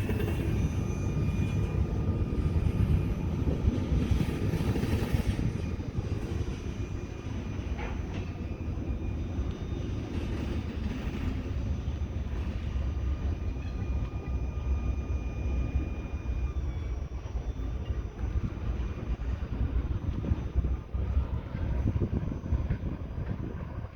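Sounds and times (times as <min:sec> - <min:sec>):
train wheels rumbling on rail: 0:00.0 - 0:23.9.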